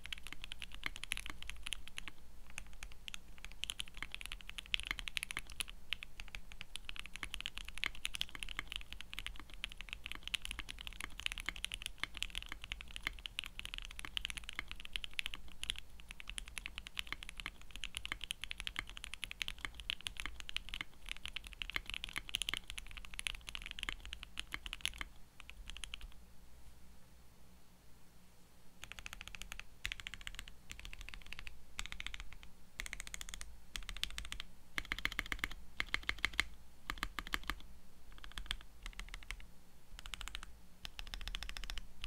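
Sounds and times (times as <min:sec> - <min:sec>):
fast mechanical keyboard typing: 0:00.0 - 0:26.2, 0:28.8 - 0:39.4, 0:40.0 - 0:41.9.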